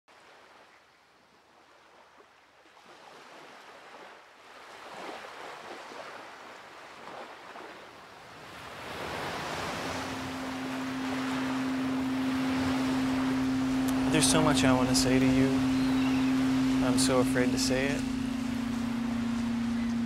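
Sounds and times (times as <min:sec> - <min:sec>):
ocean surf washing under a pier: 0:00.1 - 0:20.0.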